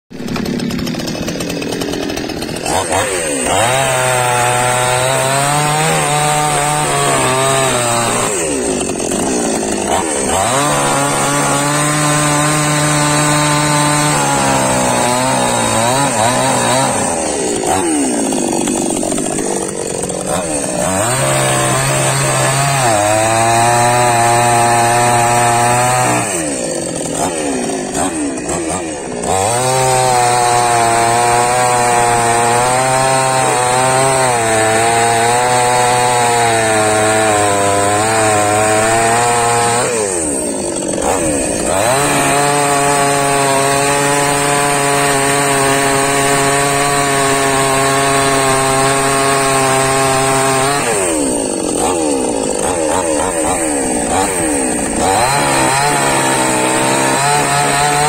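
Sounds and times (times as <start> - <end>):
chainsaw cutting logs: 0.1 - 58.0.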